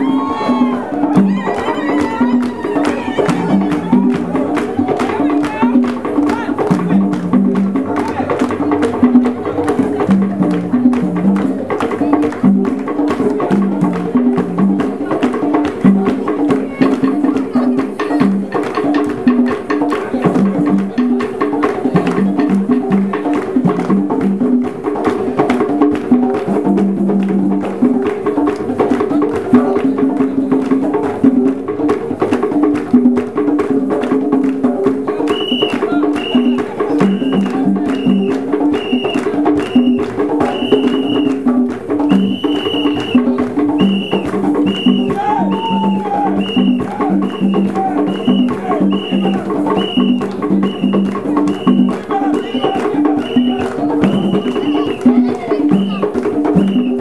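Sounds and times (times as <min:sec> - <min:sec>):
fast hand drumming: 0:00.0 - 0:57.0.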